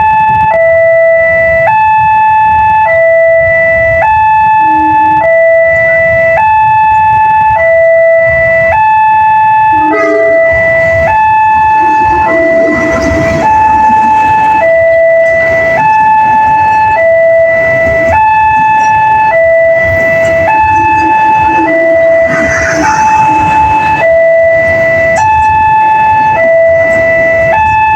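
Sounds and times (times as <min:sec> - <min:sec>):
two-tone warning siren: 0:00.0 - 0:27.9.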